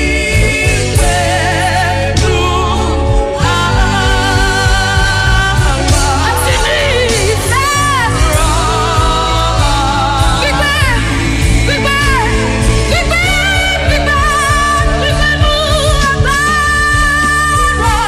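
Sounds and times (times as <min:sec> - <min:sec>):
person singing with ornamented runs: 0:00.0 - 0:18.0
steady bass: 0:00.0 - 0:18.0
sustained instrumental backing: 0:00.0 - 0:18.0.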